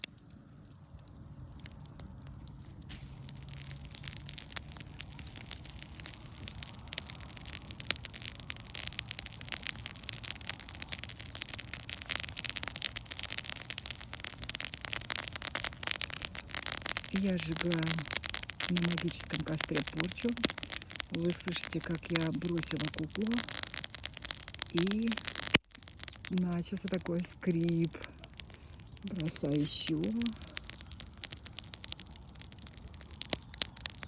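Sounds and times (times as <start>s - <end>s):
bonfire crackling and popping: 0.0s - 34.0s.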